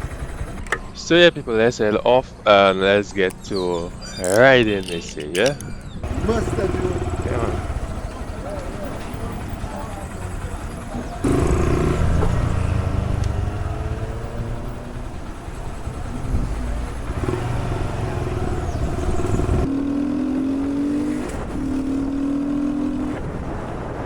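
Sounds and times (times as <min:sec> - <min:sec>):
motorbike engine revving: 0:03.2 - 0:24.0.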